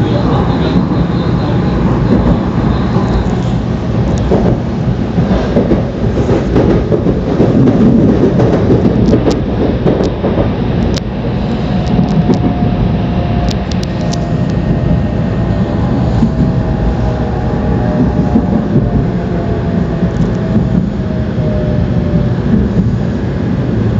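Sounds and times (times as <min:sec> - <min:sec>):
train wheels rumbling: 0:00.0 - 0:23.9.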